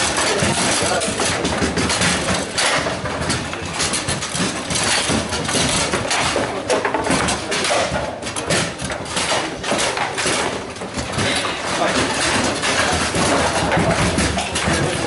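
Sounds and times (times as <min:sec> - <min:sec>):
clatter from other tables: 0:00.0 - 0:15.0
rods knocking: 0:00.0 - 0:15.0
table football ball clacking: 0:00.0 - 0:15.0.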